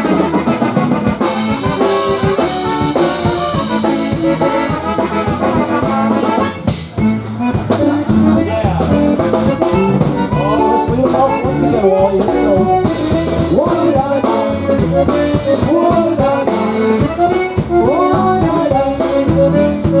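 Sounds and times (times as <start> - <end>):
accordion: 0.0 - 20.0
drum kit beat: 0.0 - 20.0
polka band playing: 0.0 - 20.0.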